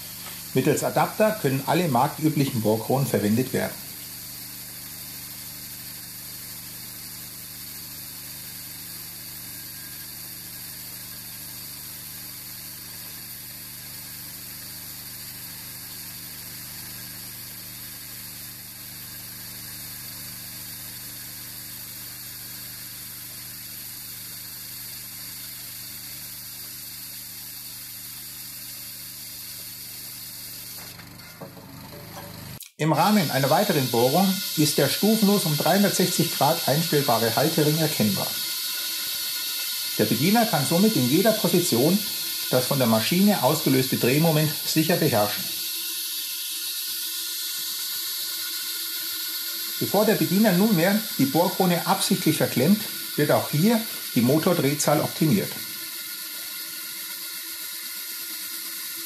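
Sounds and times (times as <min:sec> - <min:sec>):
core drill bit grinding: 0:00.0 - 0:59.0
hydraulic power pack humming: 0:00.0 - 0:59.0.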